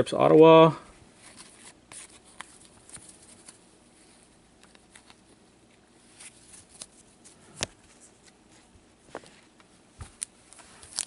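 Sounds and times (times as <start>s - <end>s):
trading cards rustling: 1.2s - 11.0s.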